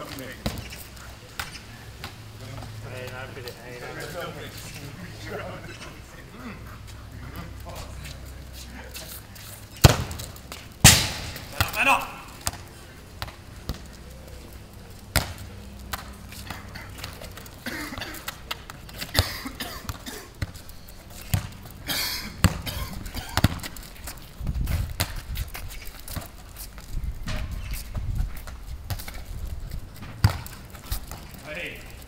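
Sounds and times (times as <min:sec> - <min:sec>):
football kicked and bouncing on tarmac: 0:00.0 - 0:04.9, 0:07.2 - 0:32.0.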